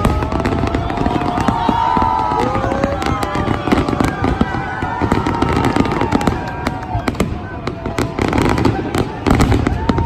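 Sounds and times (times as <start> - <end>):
fireworks crackling and popping: 0.0 - 10.0
whistling fireworks: 0.0 - 10.0.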